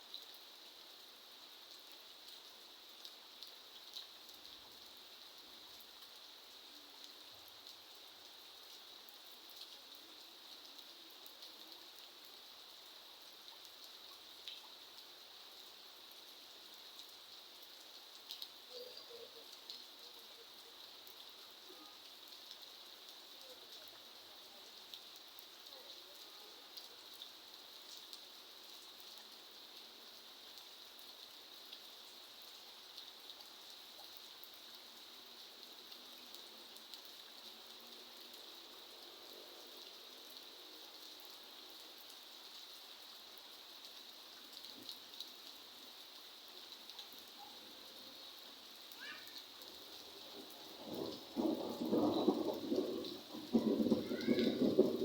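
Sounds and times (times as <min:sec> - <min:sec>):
light rain falling: 0:00.0 - 0:55.0
raindrops ticking on surfaces: 0:00.0 - 0:55.0.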